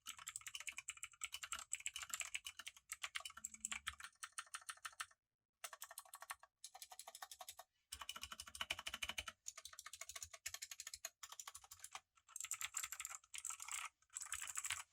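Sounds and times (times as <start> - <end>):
clicky mechanical keyboard typing: 0.0 - 14.9.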